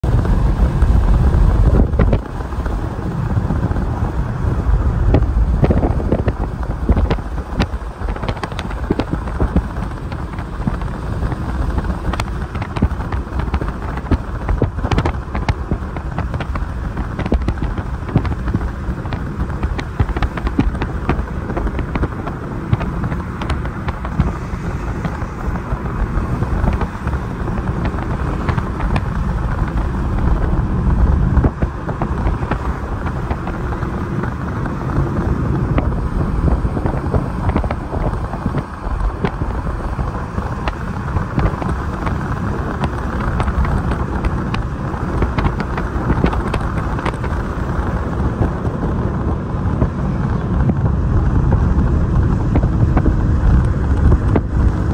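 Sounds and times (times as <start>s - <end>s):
wind noise: 0.0s - 54.9s.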